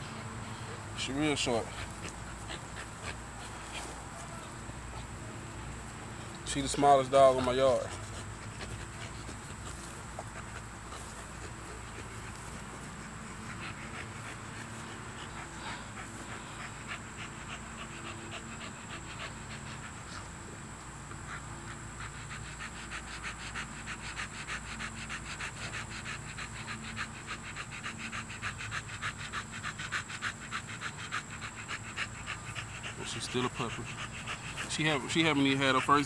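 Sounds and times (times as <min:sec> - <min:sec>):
puppy panting rapidly: 0:00.0 - 0:36.0.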